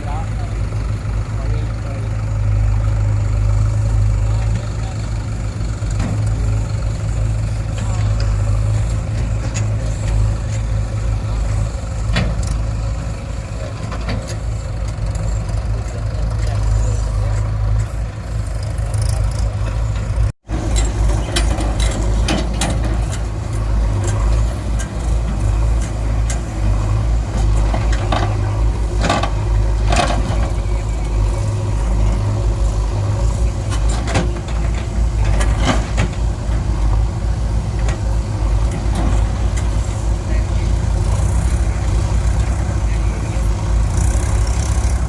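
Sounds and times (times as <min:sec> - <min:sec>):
heavy diesel machinery running: 0:00.0 - 0:45.0
loader knocks and clatters: 0:00.0 - 0:45.0.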